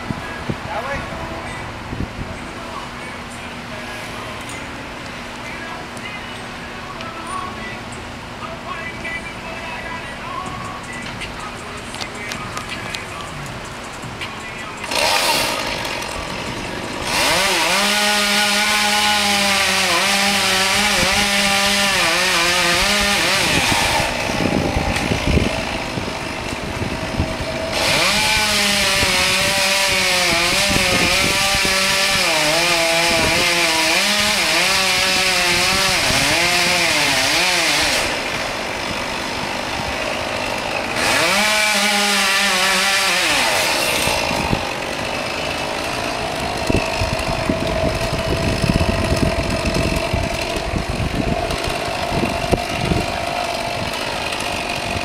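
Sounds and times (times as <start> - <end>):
chainsaw cutting wood: 10.4 - 55.0.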